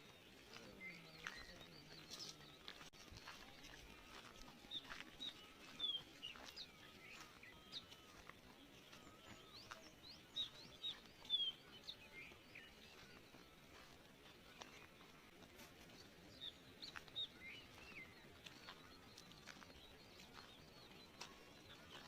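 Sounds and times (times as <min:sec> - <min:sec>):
faint outdoor hush: 0:00.0 - 0:22.0
small birds chirping: 0:00.0 - 0:22.0.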